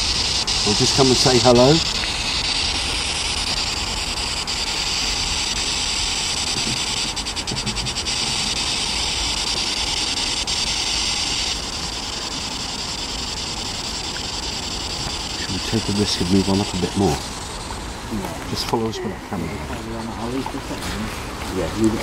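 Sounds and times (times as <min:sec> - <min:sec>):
radio static hissing: 0:00.0 - 0:22.0.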